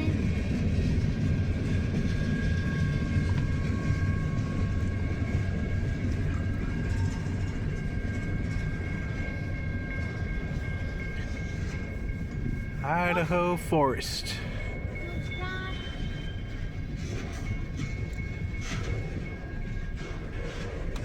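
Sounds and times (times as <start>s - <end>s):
freight train cars rumbling: 0.0s - 21.0s.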